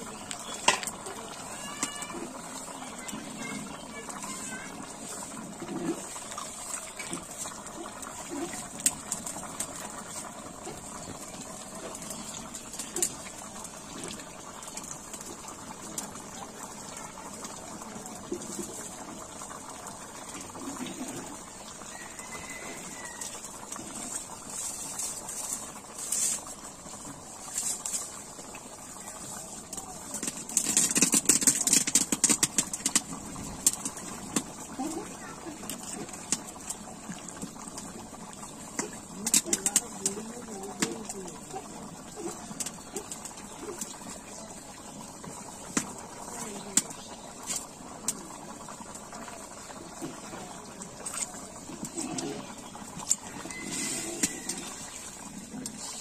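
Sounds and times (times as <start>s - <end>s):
curry boiling and bubbling: 0.0s - 56.0s
pops and crackles: 0.0s - 56.0s.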